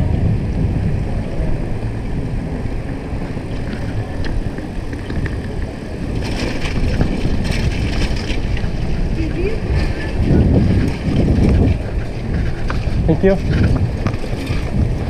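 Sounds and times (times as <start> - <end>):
bicycle tyres swishing on wet road: 0.0 - 15.0
wind buffeting microphone: 0.0 - 15.0.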